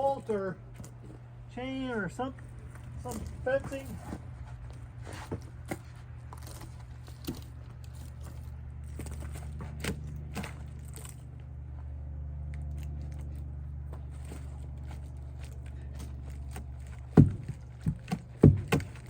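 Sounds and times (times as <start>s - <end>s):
sharp crunches and clicks: 2.2s - 19.0s.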